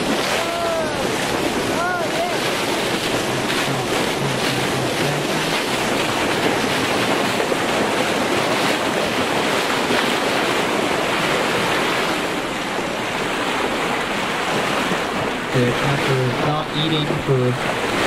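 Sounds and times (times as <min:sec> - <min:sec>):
sea waves rushing: 0:00.0 - 0:18.0
wind on microphone: 0:00.0 - 0:18.0.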